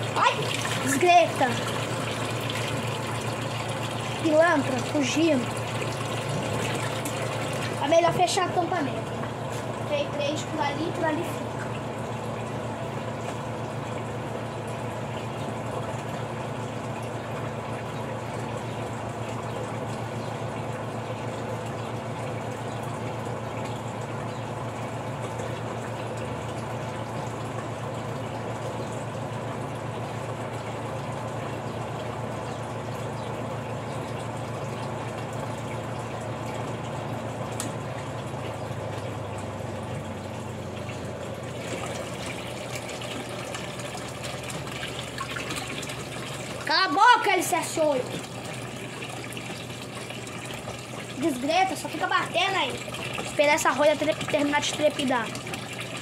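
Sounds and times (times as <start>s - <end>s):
washing machine motor hum: 0.0s - 56.0s
water churning and sloshing: 0.0s - 56.0s.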